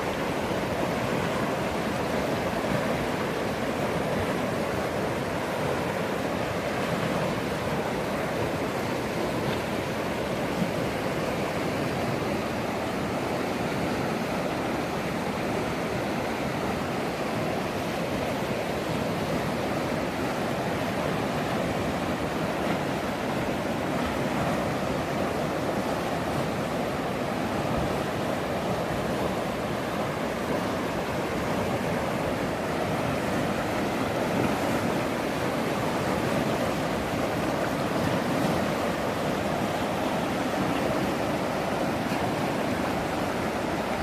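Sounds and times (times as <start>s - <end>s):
river rushing: 0.0s - 44.0s.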